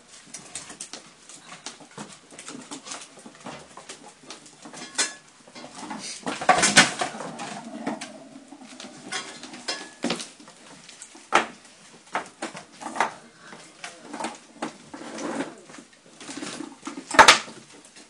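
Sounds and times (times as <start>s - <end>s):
puppies knocking and scuffling: 0.0s - 18.0s.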